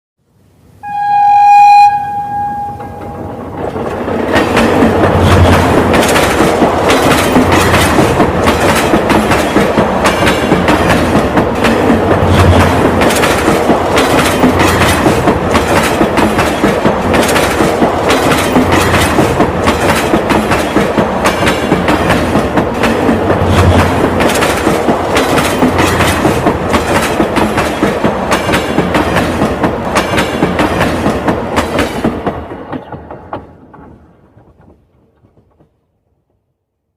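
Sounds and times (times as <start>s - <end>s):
train wheels clattering on rails: 2.5s - 36.5s.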